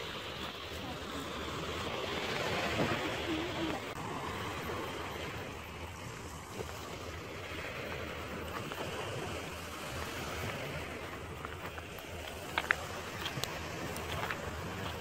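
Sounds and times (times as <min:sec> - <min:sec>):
sea waves washing on shore: 0:00.0 - 0:15.0
wind on microphone: 0:00.0 - 0:15.0.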